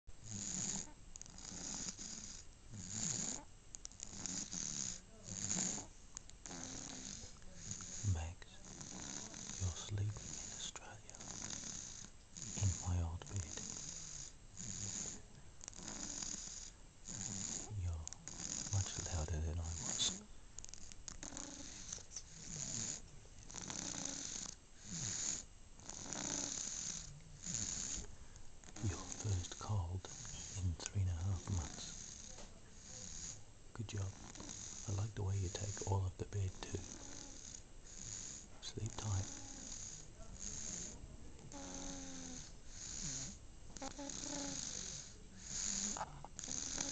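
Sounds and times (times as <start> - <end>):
person snoring: 0.2 - 20.3, 21.2 - 28.1, 28.7 - 46.9.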